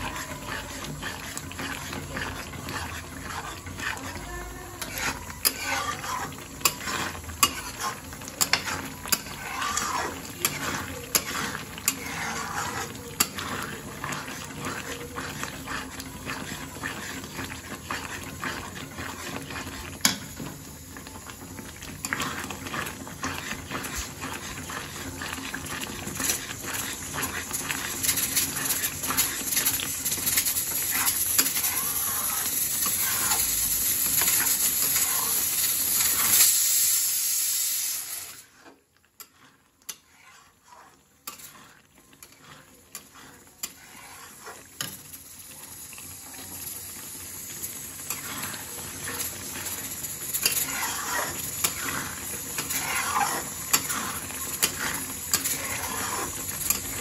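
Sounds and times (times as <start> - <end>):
metal spatula scraping pan: 0.0 - 36.8, 38.4 - 46.4, 47.4 - 57.0
gravy sizzling and bubbling: 0.0 - 57.0.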